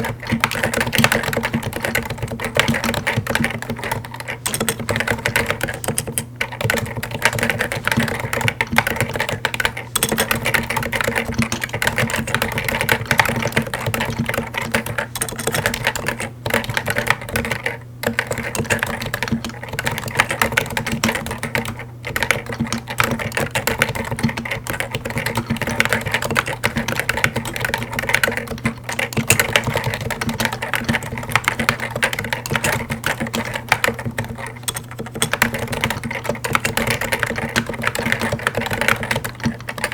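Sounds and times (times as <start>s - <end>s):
typing on keyboard: 0.0s - 39.9s.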